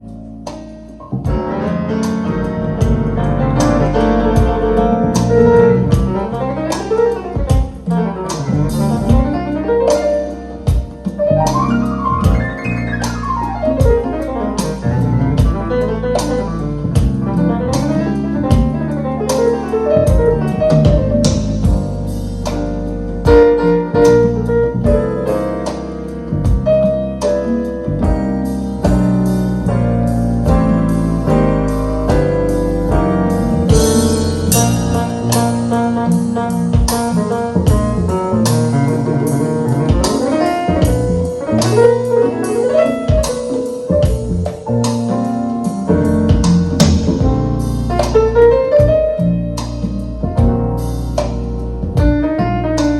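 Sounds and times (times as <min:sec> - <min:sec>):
instrumental music with drums: 0:00.4 - 0:52.9.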